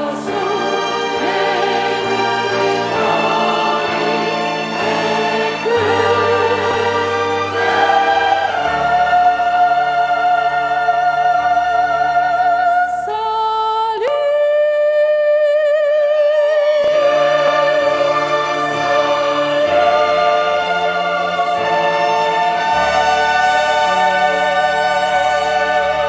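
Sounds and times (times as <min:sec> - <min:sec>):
orchestra playing: 0:00.0 - 0:12.3, 0:16.8 - 0:26.0
choir singing a hymn: 0:00.0 - 0:14.1, 0:16.6 - 0:26.0.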